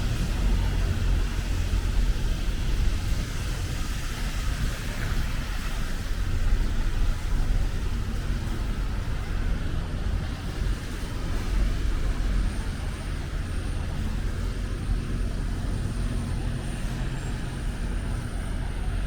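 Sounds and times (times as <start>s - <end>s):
low rumble of traffic: 0.0s - 19.0s
rain hiss and wet tyres: 0.0s - 19.0s.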